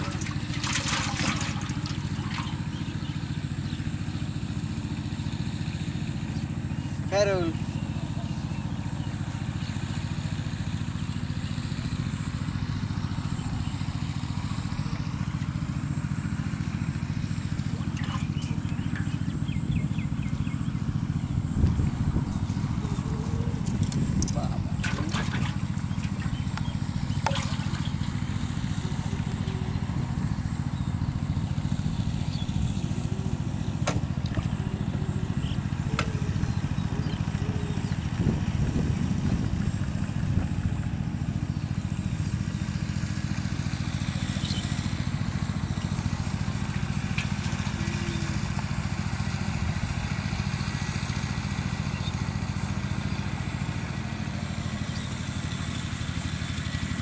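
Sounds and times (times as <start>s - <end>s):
small engine droning: 0.0s - 57.0s.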